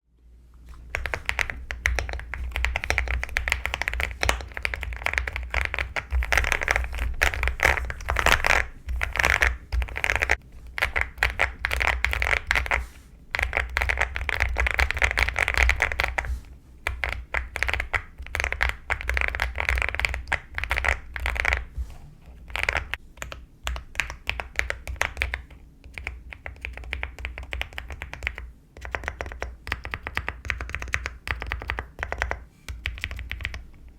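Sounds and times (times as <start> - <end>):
mechanical keyboard typing: 0.9 - 21.7, 22.4 - 33.7.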